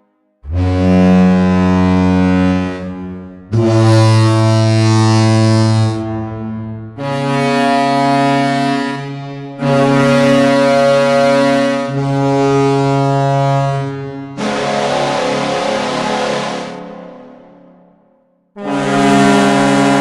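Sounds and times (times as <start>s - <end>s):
deep goal air horn blasts: 0.4s - 17.2s, 18.6s - 20.0s.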